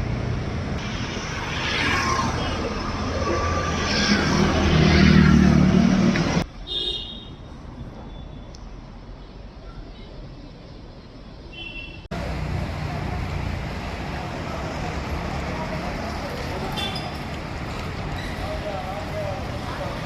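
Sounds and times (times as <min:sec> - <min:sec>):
vehicle engines rumbling: 0:00.0 - 0:06.7, 0:07.5 - 0:20.0
street noise: 0:00.0 - 0:20.0.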